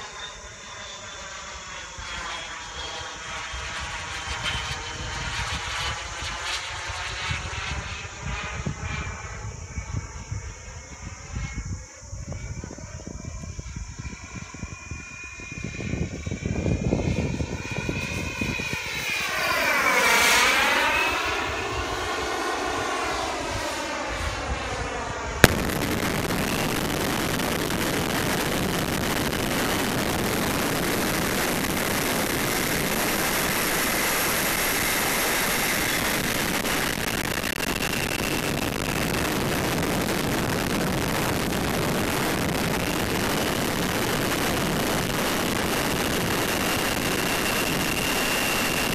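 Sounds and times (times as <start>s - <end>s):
jet turbine passing overhead: 0.0s - 48.9s
rush of air and turbine: 0.0s - 48.9s.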